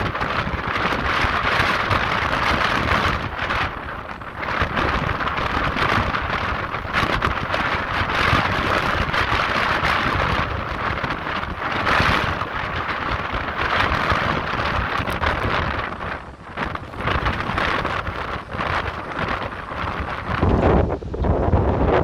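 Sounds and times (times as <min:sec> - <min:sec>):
waves breaking over rocks: 0:00.0 - 0:21.2
wind buffeting microphone: 0:00.0 - 0:22.0.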